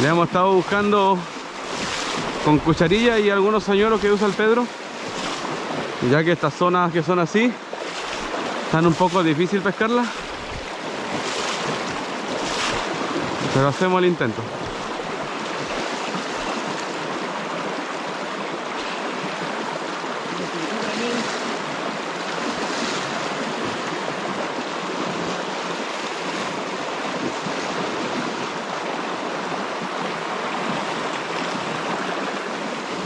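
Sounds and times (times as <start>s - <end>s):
river rushing over riffles: 0.0s - 33.0s.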